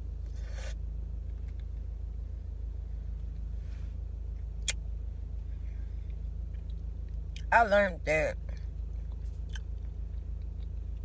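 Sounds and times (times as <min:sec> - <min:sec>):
car idling: 0:00.0 - 0:11.0.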